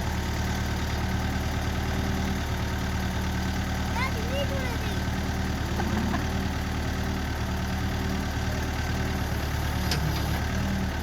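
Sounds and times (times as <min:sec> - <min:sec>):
backhoe engine idling: 0:00.0 - 0:11.0.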